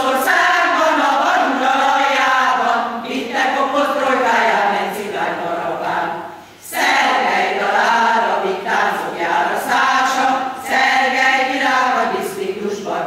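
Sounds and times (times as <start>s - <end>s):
women's choir singing: 0.0s - 13.0s.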